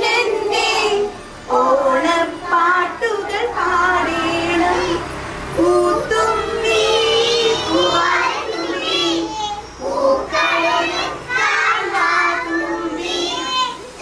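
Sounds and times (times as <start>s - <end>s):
young children singing: 0.0s - 14.0s.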